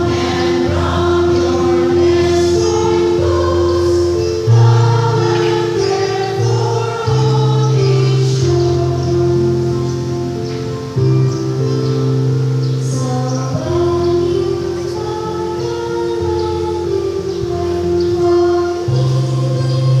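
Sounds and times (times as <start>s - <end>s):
choir of women's voices singing: 0.0s - 10.4s, 12.8s - 20.0s
held low accompanying notes: 0.0s - 20.0s.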